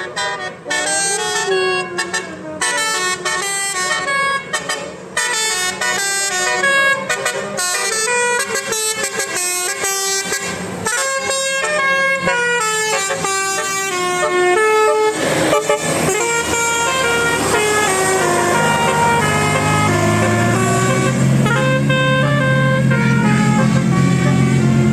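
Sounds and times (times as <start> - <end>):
bus musical air horn: 0.0 - 24.9.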